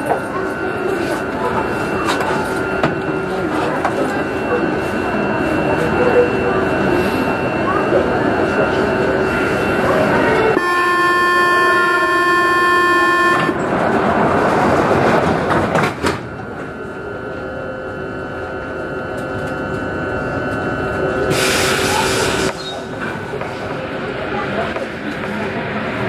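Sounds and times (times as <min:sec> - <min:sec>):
electrical whine of train: 0:00.0 - 0:26.0
train rumbling: 0:00.0 - 0:26.0.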